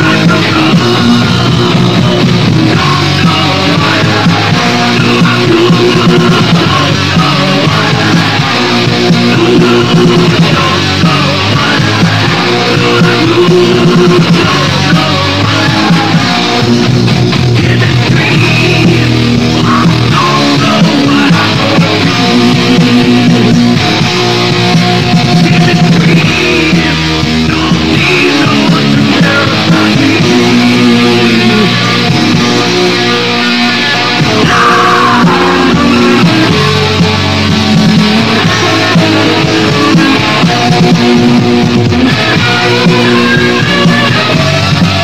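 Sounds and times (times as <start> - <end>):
hard rock band playing: 0.0 - 45.0.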